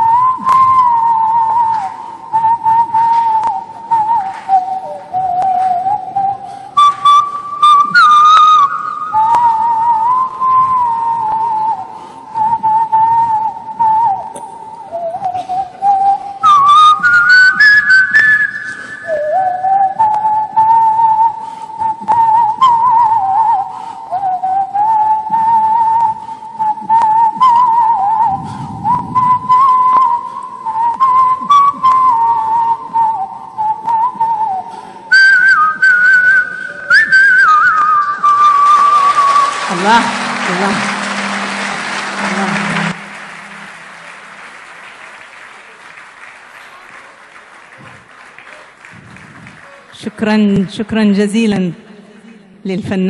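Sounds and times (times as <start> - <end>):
man whistling a melody: 0.0 - 44.2.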